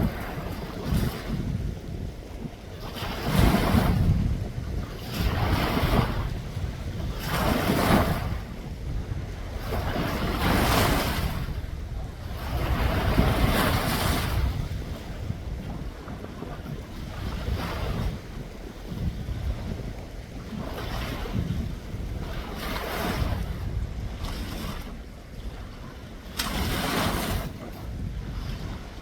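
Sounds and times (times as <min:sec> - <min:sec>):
sea waves washing in: 0:00.0 - 0:29.0
wind buffeting microphone: 0:00.0 - 0:29.0.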